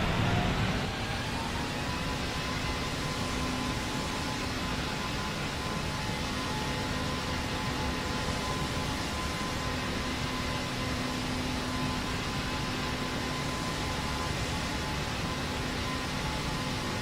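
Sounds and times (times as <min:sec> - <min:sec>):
airplane drone: 0:00.0 - 0:17.0.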